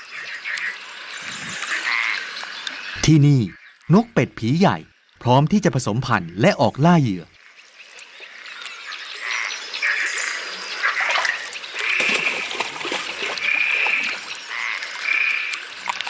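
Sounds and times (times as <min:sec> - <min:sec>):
frogs croaking: 0:00.0 - 0:16.0.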